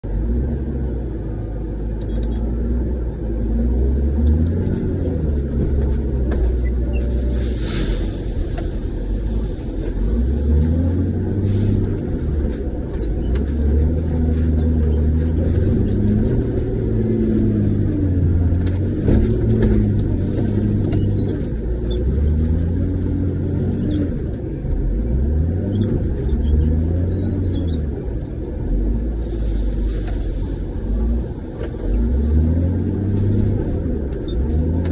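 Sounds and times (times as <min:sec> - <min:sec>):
diesel engine revving: 0:00.0 - 0:34.9
clunks and rattles: 0:04.2 - 0:34.9.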